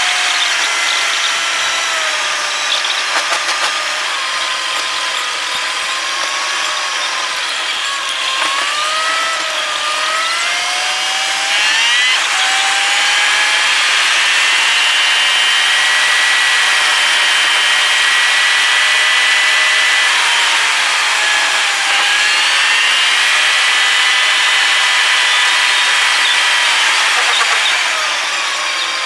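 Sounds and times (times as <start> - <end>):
vehicle drivetrain whine: 0.0 - 29.0.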